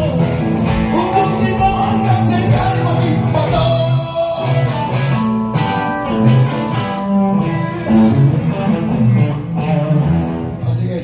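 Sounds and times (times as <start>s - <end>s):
bass line: 0.0s - 11.0s
guitar lead: 0.0s - 11.0s
rock band playing: 0.0s - 11.0s.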